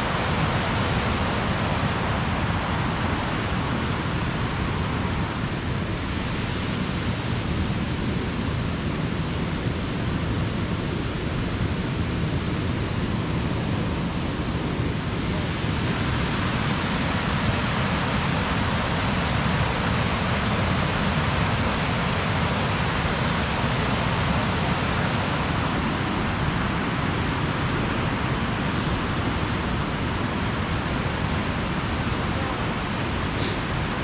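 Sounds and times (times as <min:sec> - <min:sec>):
loud flowing water: 0:00.0 - 0:34.0.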